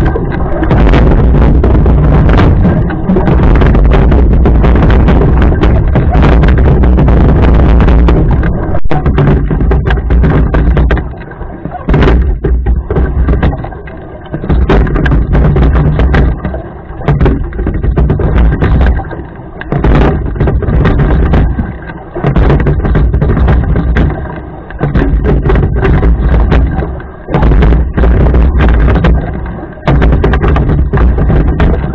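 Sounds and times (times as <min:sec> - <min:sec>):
rowing boat rumbling with knocks: 0:00.0 - 0:31.9.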